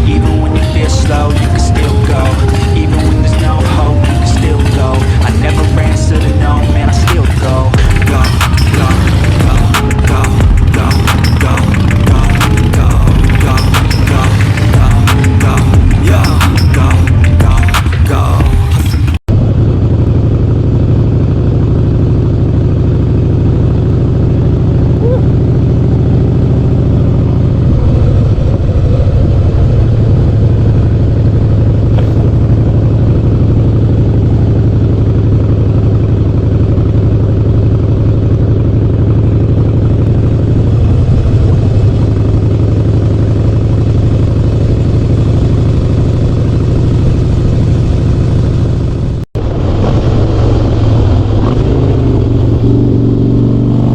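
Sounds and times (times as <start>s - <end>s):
motorcycle exhaust note: 0.0s - 53.9s.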